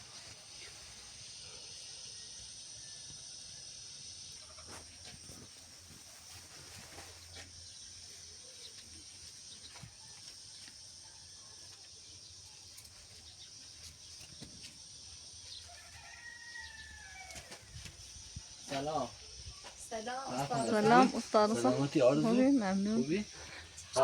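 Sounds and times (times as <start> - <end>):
steady high-pitched hiss: 0.0 - 24.0.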